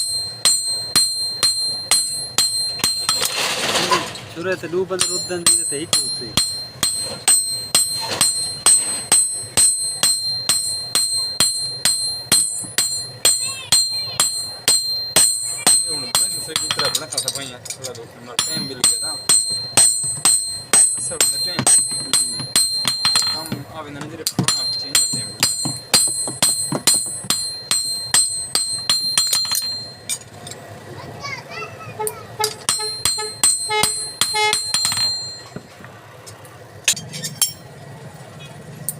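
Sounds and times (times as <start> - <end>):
hammer striking metal on anvil: 0.0 - 4.2, 4.9 - 30.7, 32.0 - 35.7, 36.8 - 37.7.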